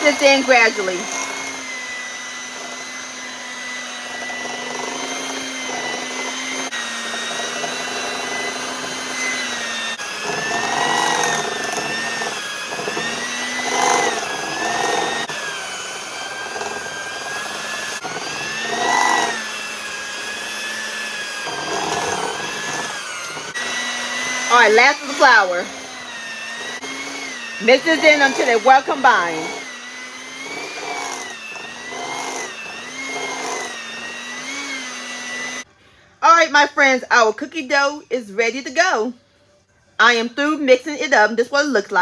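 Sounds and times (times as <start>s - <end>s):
electric hand mixer whine: 0.0s - 35.7s.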